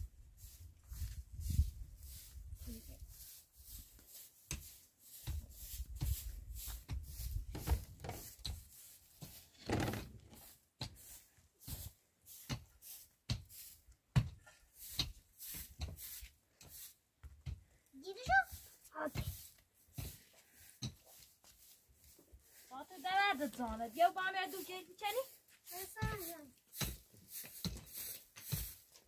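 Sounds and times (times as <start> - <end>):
scraping on dry earth: 0.0 - 17.0, 18.1 - 29.0.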